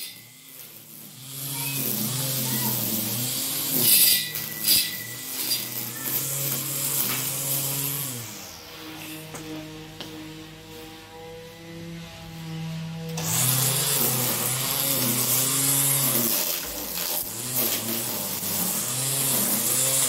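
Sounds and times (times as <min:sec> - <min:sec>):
electric string trimmer cutting grass: 0:00.0 - 0:20.0.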